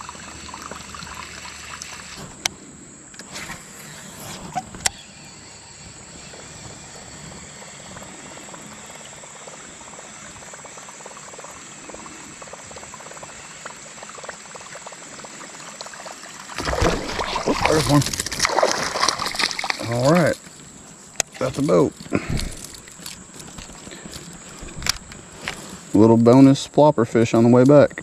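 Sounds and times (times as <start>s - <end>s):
creek water trickling: 0.0s - 28.0s
high-pitched insect drone: 0.0s - 28.0s.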